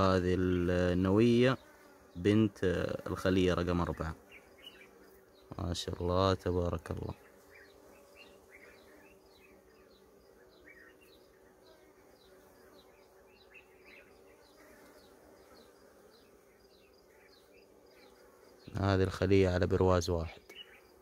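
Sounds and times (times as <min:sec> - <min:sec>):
honeybees humming: 0:00.0 - 0:21.0
small birds chirping: 0:00.0 - 0:21.0.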